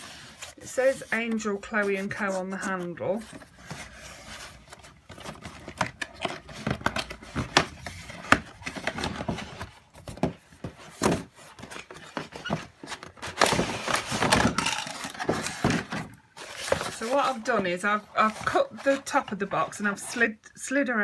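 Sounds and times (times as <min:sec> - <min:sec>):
cardboard tray rustling: 0:00.0 - 0:20.2
packaging being handled: 0:00.1 - 0:19.2.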